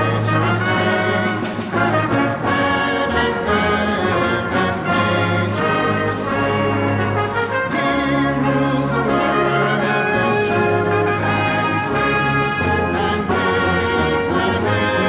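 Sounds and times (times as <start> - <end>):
brass band playing a carol: 0.0 - 15.0.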